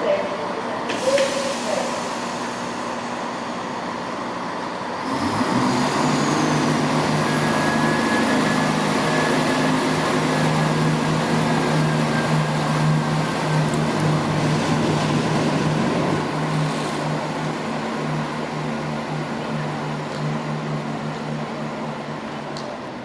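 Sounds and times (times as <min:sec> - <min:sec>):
diesel train engine running: 0:00.0 - 0:23.0.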